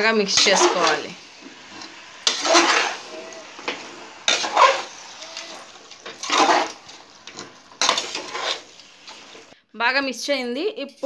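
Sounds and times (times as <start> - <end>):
spoon scraping in a metal pot: 0.3 - 9.6.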